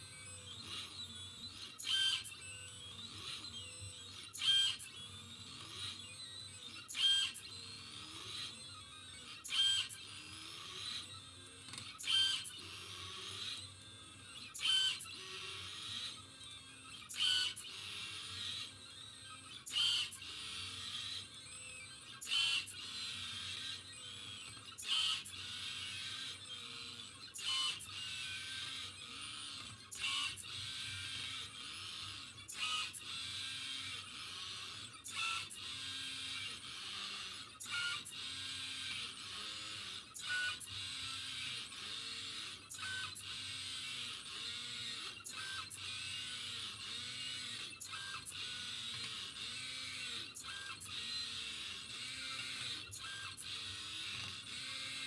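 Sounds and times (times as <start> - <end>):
stepper motors whining: 0.0 - 55.0.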